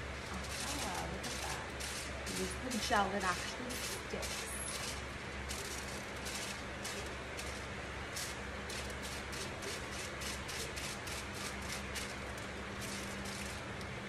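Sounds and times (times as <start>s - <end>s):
steady low hum: 0.0s - 14.0s
brush crinkling foil: 0.2s - 13.7s.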